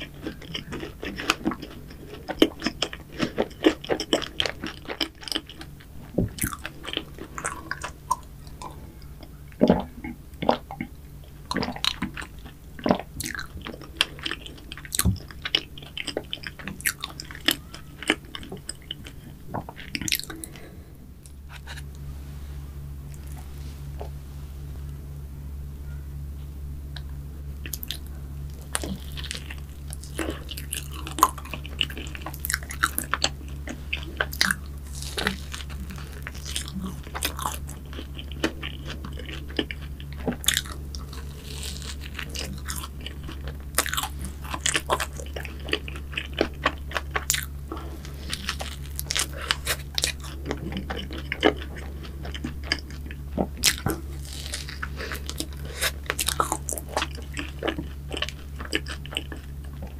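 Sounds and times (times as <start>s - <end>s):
crunching and chewing food: 0.0s - 25.2s, 25.8s - 59.9s
steady low hum: 0.0s - 59.9s.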